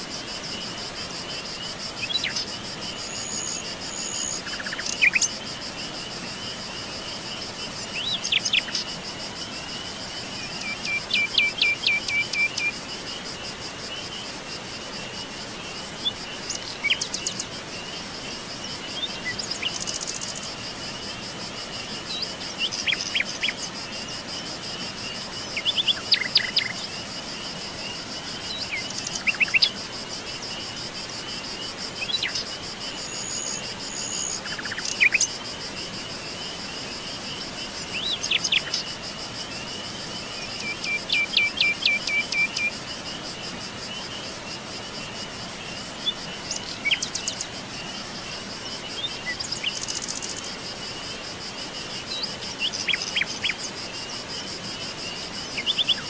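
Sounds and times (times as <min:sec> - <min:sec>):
high-pitched insect trill: 0:00.0 - 0:56.0.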